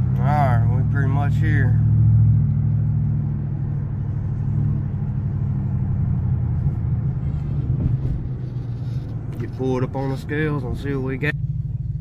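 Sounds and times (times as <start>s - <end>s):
road rumble: 0.0s - 12.0s
truck engine humming: 0.0s - 12.0s.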